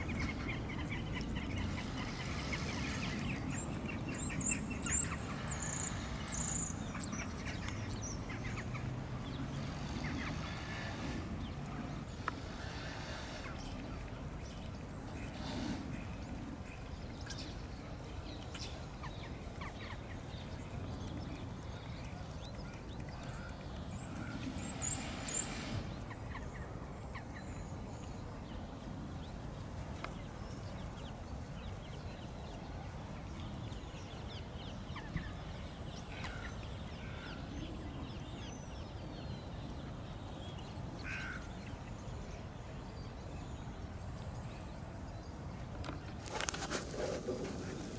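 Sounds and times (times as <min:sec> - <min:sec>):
rustle: 0:00.0 - 0:47.9.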